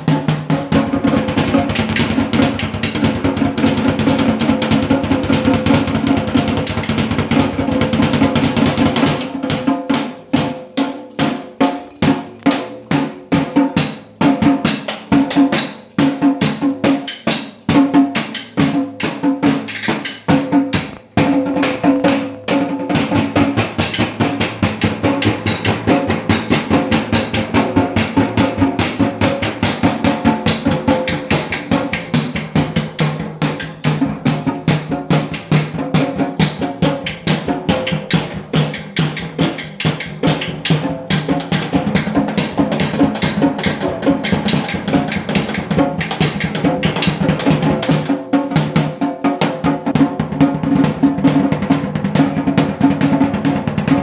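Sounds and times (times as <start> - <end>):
drum roll: 0.0 - 54.0
drum strokes: 0.0 - 54.0.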